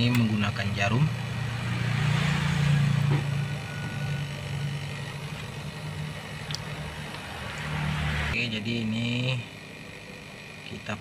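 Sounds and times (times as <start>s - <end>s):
refrigerator compressor humming: 0.0s - 11.0s.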